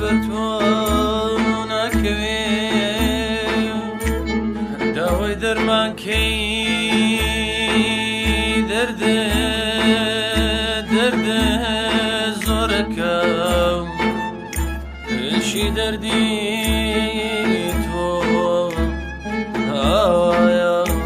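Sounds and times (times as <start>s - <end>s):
folk music wavering melody: 0.0s - 21.0s.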